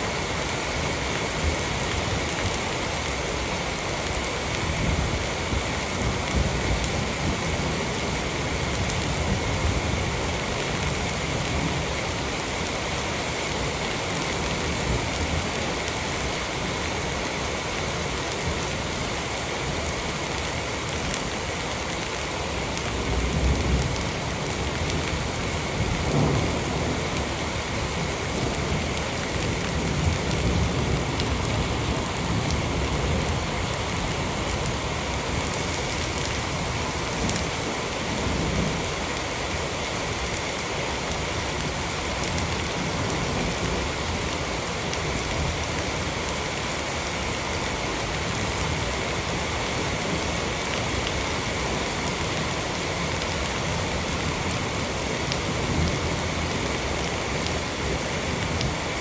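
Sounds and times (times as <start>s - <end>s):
rain on concrete: 0.0s - 59.0s.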